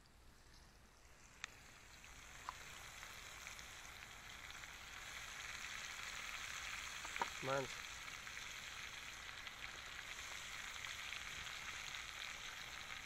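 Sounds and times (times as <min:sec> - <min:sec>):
fish sizzling in oil: 0:00.3 - 0:13.0
oil popping: 0:00.4 - 0:13.0.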